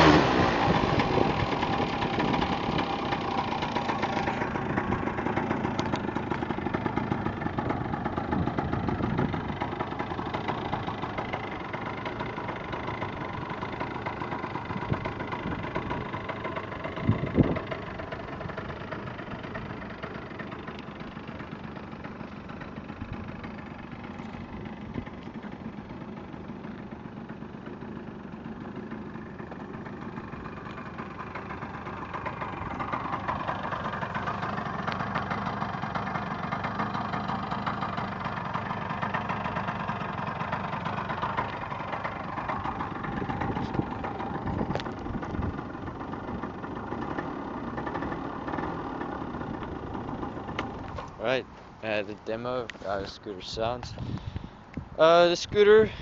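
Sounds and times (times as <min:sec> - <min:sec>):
scooter engine idling: 0:00.0 - 0:56.0.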